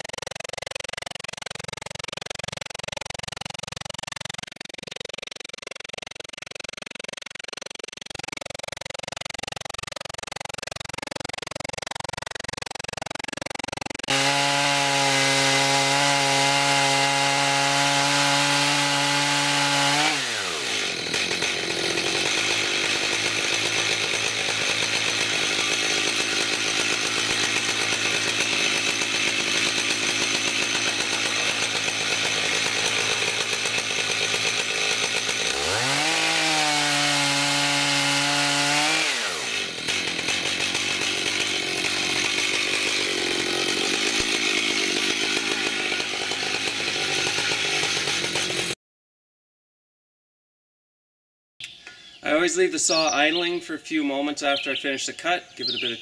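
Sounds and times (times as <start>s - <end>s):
chainsaw cutting a log: 0.0s - 48.8s.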